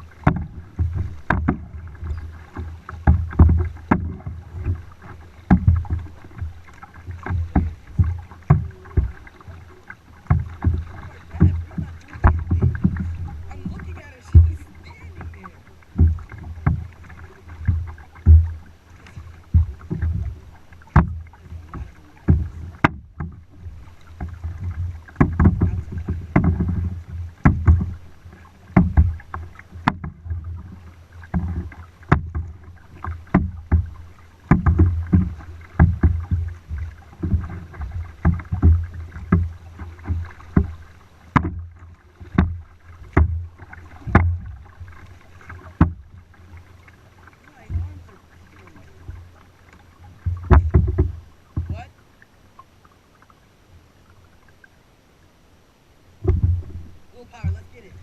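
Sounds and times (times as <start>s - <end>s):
paddle strokes in water: 0.0s - 58.0s
water slapping kayak hull: 0.0s - 58.0s.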